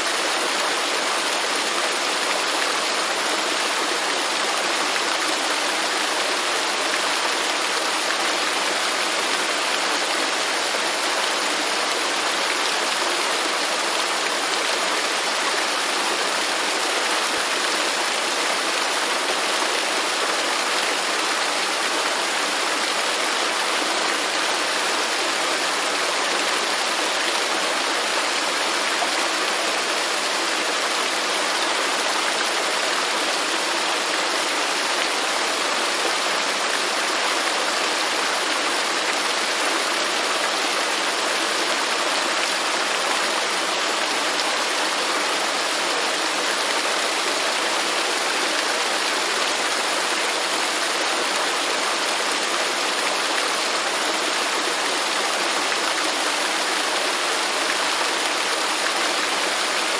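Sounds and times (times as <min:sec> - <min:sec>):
waterfall running: 0:00.0 - 0:59.9.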